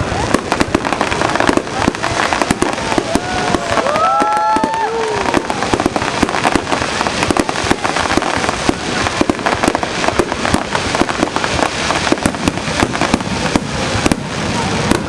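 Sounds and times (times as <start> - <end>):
fireworks cracking and popping: 0.0 - 15.0.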